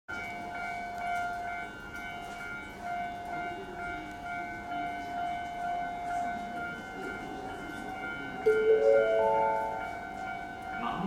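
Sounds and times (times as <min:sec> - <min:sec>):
faint station background hiss: 0:00.3 - 0:11.0.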